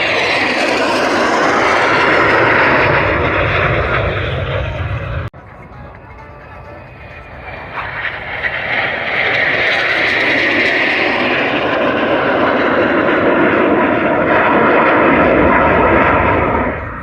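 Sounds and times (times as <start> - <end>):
turboprop aircraft flying past: 0.0 - 17.0.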